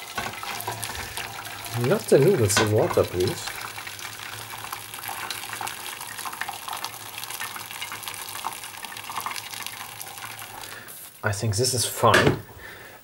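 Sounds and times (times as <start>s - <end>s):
water poured into colander: 0.0s - 11.2s.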